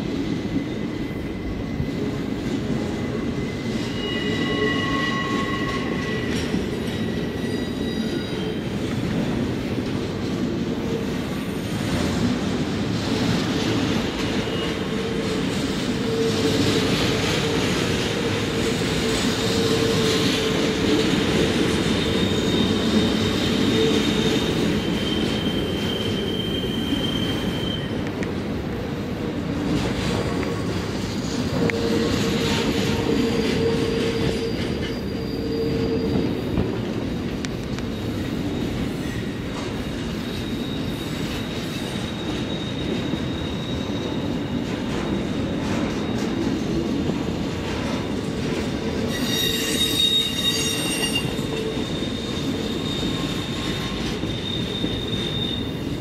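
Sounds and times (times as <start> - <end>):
train wheels squealing on rails: 0.0 - 56.0.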